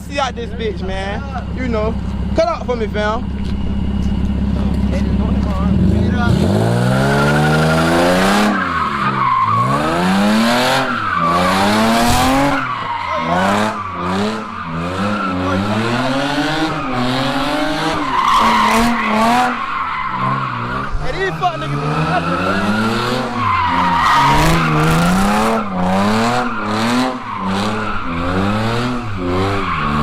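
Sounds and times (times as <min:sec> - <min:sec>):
tyres squealing and skidding: 0:00.0 - 0:30.0
car engine revving hard: 0:04.4 - 0:30.0.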